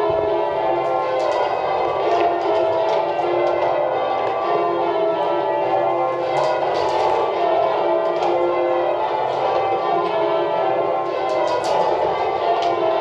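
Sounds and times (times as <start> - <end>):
church bells change ringing: 0.0 - 13.0.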